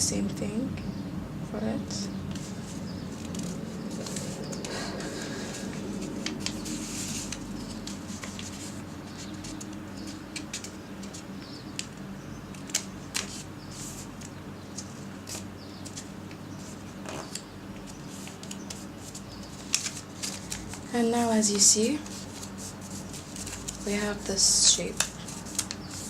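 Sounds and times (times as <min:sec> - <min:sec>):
paper rustling while folded: 0:02.3 - 0:26.0.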